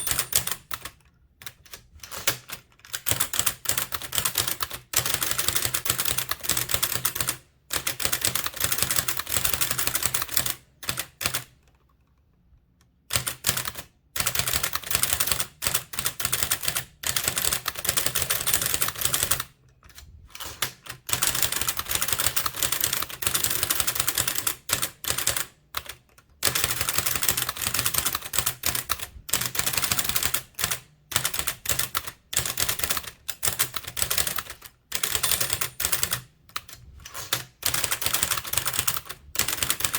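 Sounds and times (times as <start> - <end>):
typewriter keys clacking: 0.0 - 11.5, 13.1 - 39.9.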